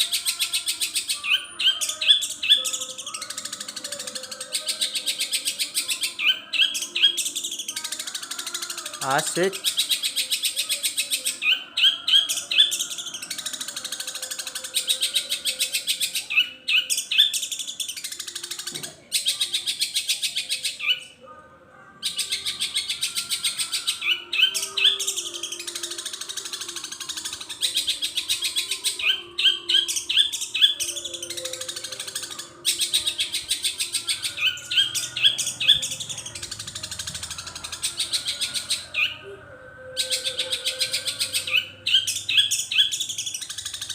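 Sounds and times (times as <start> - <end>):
bird singing fast chattering song: 0.0 - 21.1, 22.1 - 39.2, 39.9 - 43.9.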